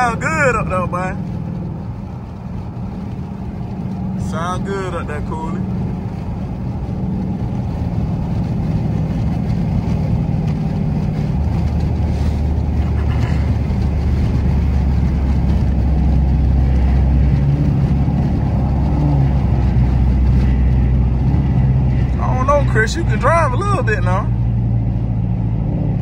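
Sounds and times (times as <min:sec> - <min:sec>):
car exhaust droning: 0:00.0 - 0:26.0.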